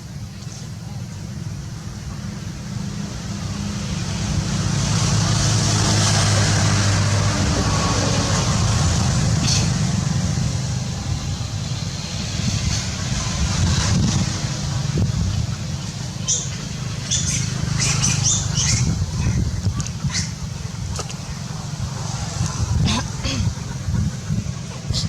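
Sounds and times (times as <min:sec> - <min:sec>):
vehicle passing: 0:01.3 - 0:25.0.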